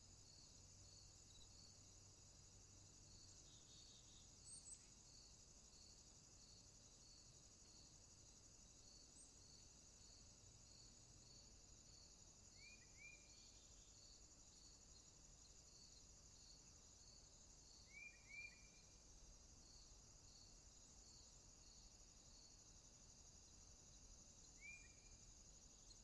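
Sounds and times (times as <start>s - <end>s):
cricket chirping: 0.0s - 26.0s
insect chorus high buzz: 0.0s - 26.0s.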